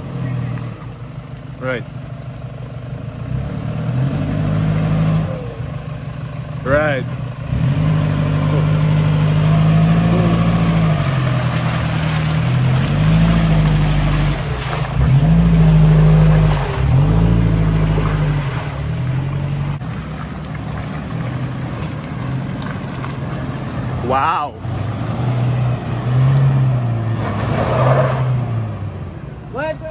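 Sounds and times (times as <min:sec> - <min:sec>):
truck engine revving: 0:00.0 - 0:29.9.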